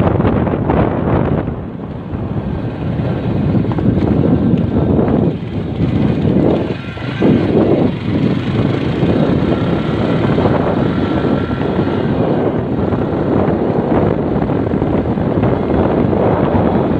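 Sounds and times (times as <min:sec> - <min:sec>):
moving road vehicle: 0:00.0 - 0:16.9
wind buffeting microphone: 0:00.0 - 0:16.9.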